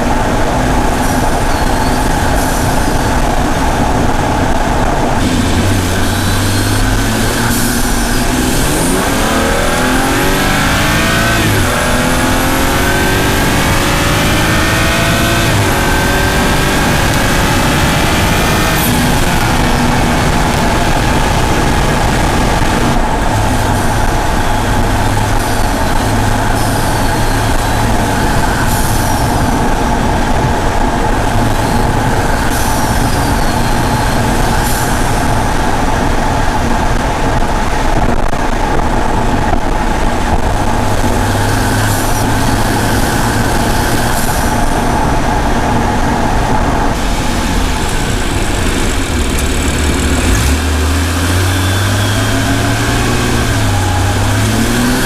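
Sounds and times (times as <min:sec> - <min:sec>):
car exhaust note: 0:00.0 - 0:55.0
wind and road noise: 0:00.0 - 0:55.0.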